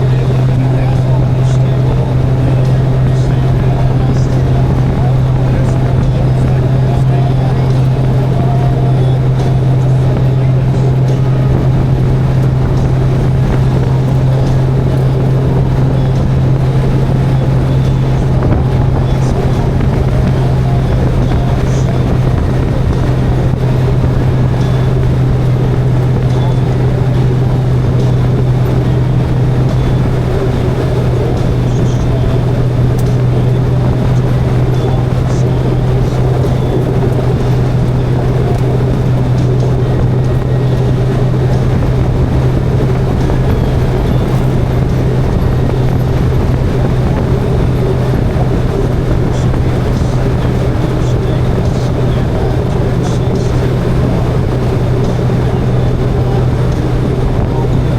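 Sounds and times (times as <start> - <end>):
motorcycle engine drone: 0.0 - 57.9
road noise: 0.0 - 57.9
rushing wind: 0.0 - 57.9.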